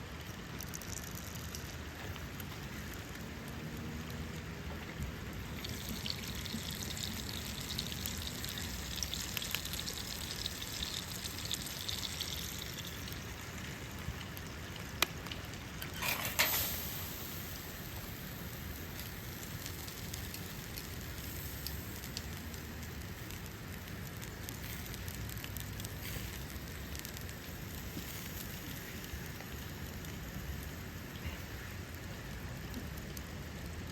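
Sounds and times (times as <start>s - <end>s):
meat sizzling over a campfire: 0.0s - 33.9s.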